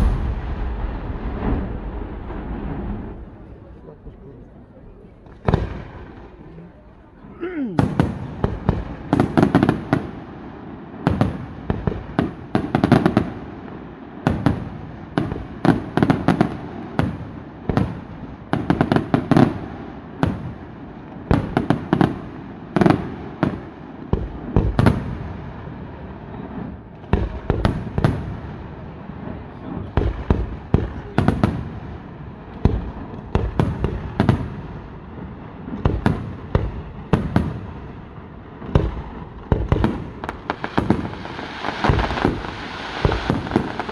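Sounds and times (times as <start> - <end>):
fireworks bangs and pops: 0.0 - 4.2, 4.9 - 43.9
fireworks crackling: 0.0 - 43.9.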